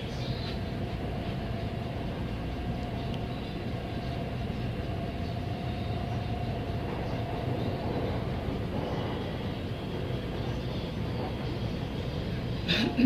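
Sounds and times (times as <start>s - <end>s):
faint steady whine: 0.0s - 13.0s
train wheels rumbling on rail: 0.0s - 13.0s.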